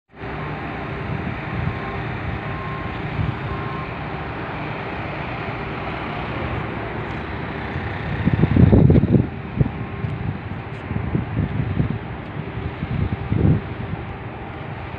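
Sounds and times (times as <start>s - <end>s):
city traffic: 0.1s - 14.9s
faint engine hum: 0.1s - 14.9s
wind rumbling on microphone: 0.2s - 14.9s.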